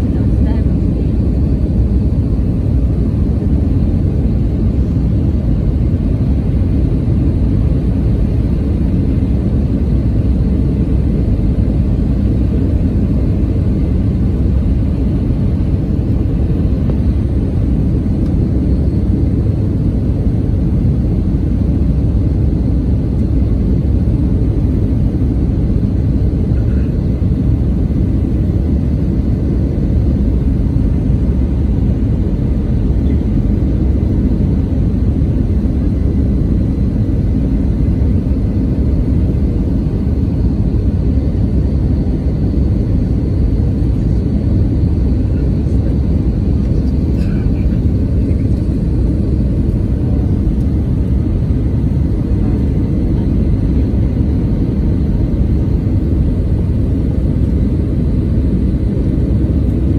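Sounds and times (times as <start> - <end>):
jet engine and airflow rumble: 0.0 - 59.9.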